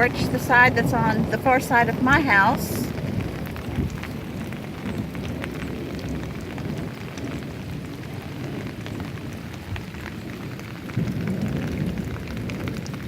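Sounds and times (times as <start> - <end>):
rain drops hitting: 0.0 - 13.0.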